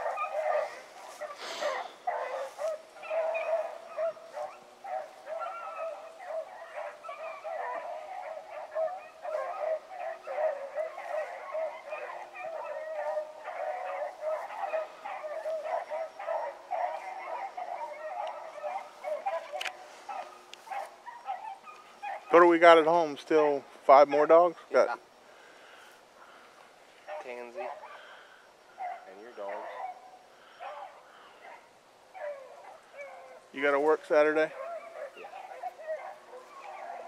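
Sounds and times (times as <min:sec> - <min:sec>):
hounds baying: 0:00.0 - 0:37.0.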